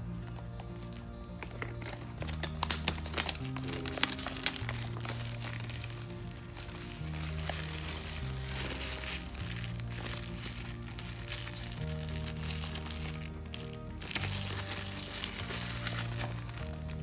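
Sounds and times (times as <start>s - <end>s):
background music: 0.0s - 17.0s
plastic wrapping crinkling: 0.2s - 17.0s.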